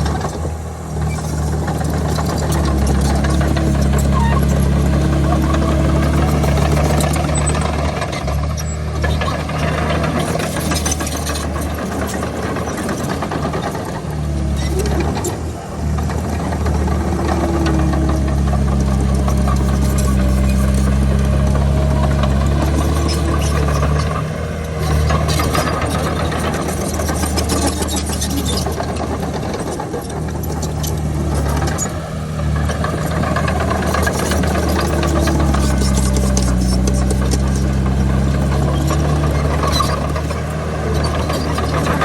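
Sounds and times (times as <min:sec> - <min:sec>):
bulldozer diesel engine under load: 0:00.0 - 0:42.0.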